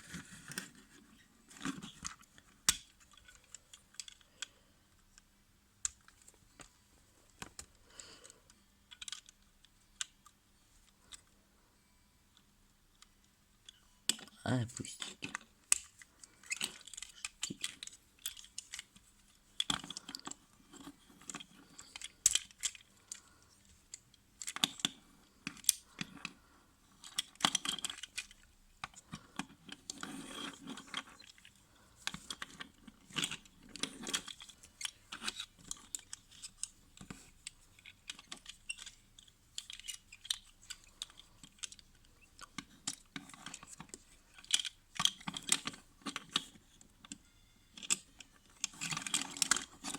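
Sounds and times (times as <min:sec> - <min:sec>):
plastic toy parts clicking: 0:00.4 - 0:06.7, 0:07.3 - 0:11.4, 0:12.4 - 0:49.9.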